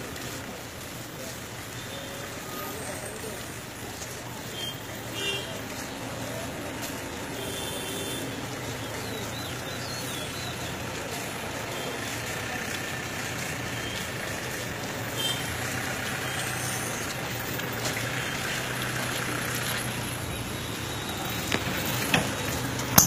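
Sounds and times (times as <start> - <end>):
street noise: 0.0 - 23.0
vehicle engine humming: 0.0 - 23.0.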